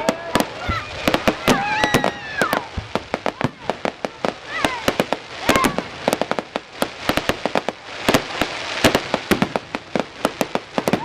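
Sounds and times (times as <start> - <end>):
fireworks bangs and crackles: 0.0 - 11.0
steady hiss: 0.0 - 11.0.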